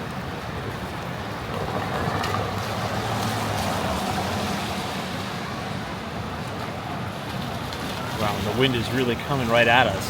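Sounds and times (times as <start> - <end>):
road and wind noise: 0.0 - 10.0.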